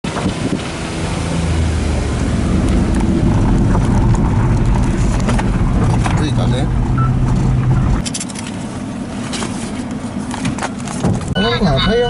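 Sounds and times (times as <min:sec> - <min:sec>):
truck engine running: 0:00.1 - 0:12.0.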